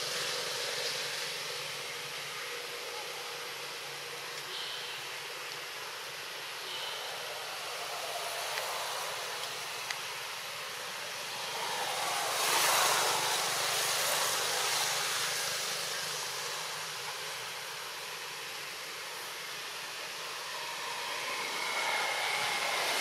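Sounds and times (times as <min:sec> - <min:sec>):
steady outdoor noise: 0:00.0 - 0:23.0.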